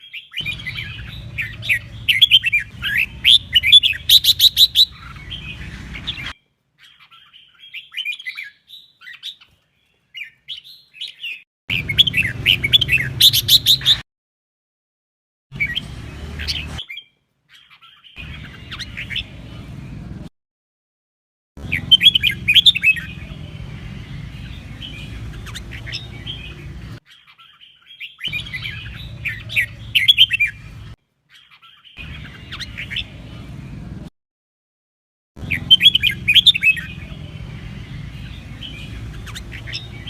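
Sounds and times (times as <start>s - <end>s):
bird singing whistled chirping song: 0.0s - 9.4s, 10.2s - 14.0s, 15.6s - 19.3s, 21.7s - 30.6s, 31.4s - 33.2s, 35.4s - 40.0s.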